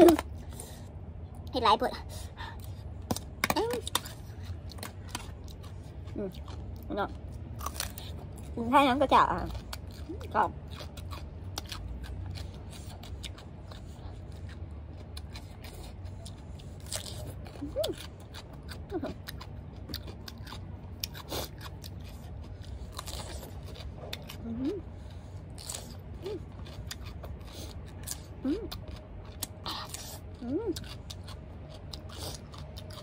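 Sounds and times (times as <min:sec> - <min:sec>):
crisp chewing crunches: 0:02.4 - 0:33.0.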